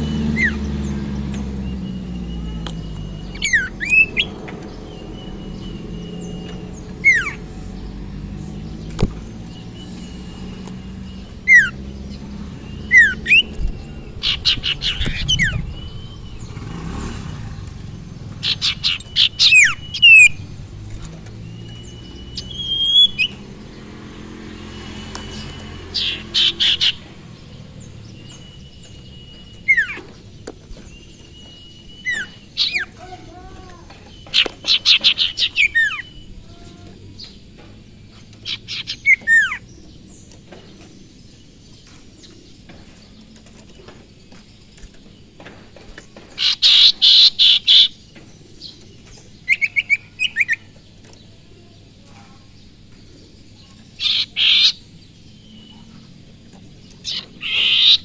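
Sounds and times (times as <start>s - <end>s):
caged songbird singing: 0.0s - 58.0s.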